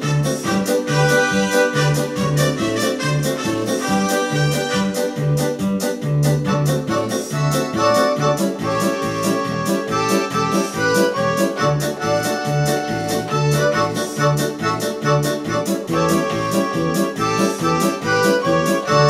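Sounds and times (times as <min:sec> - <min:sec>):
keyboard playing a dance tune: 0:00.0 - 0:19.0.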